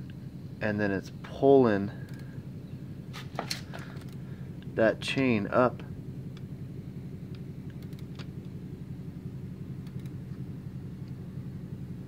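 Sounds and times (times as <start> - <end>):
bicycle engine running: 0.0 - 12.0.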